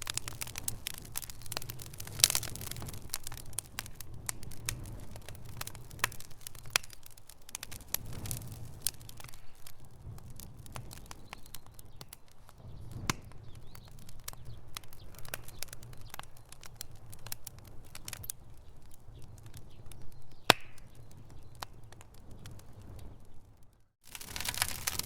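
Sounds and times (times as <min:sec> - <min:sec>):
campfire crackling: 0:00.0 - 0:25.0
sharp pops from fire: 0:00.0 - 0:25.0.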